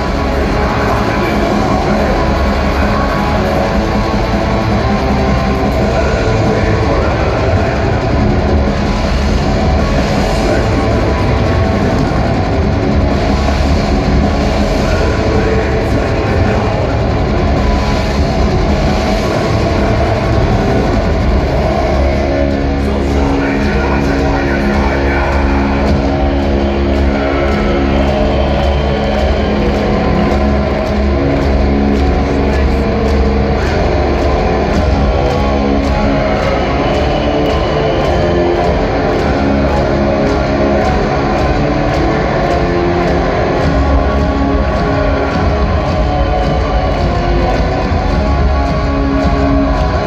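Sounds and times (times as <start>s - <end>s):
distorted guitars: 0.0s - 50.0s
drum and cymbal hits: 0.0s - 50.0s
heavy bass: 0.0s - 50.0s.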